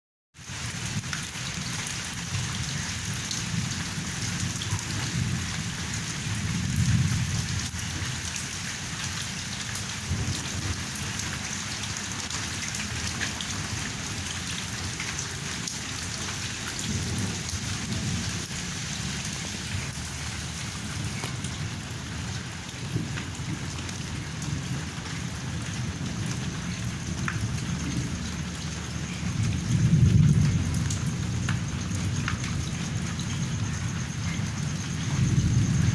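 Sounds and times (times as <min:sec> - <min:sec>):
steady rain falling: 0:00.4 - 0:35.9
thunder rumbling: 0:01.5 - 0:35.9.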